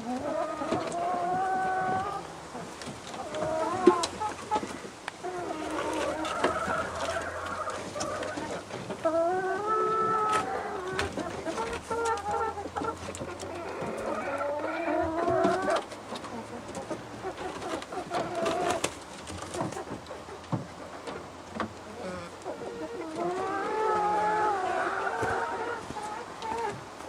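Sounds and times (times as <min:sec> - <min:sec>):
chickens calling: 0:00.0 - 0:27.0.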